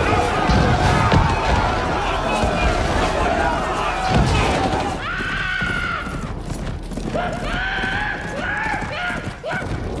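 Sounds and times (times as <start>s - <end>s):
horse hoofbeats galloping: 0.3s - 10.0s.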